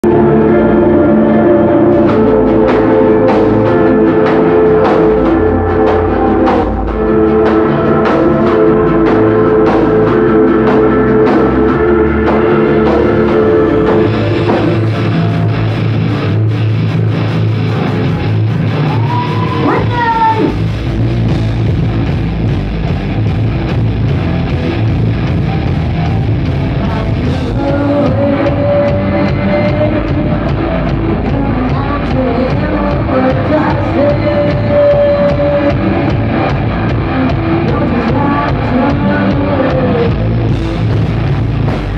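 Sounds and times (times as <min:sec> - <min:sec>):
bass guitar: 0:00.0 - 0:41.9
distorted electric guitars: 0:00.0 - 0:41.9
drum kit: 0:00.0 - 0:41.9.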